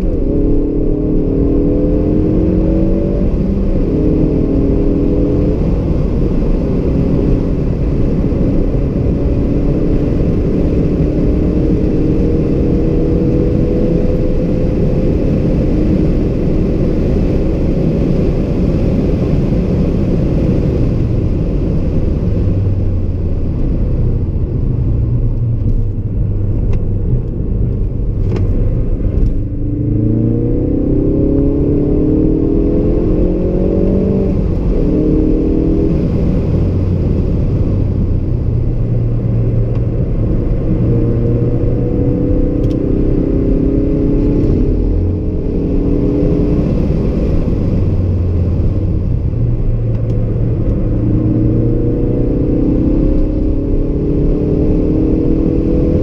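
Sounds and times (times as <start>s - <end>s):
car engine accelerating: 0.0s - 56.0s
low road rumble: 0.0s - 56.0s.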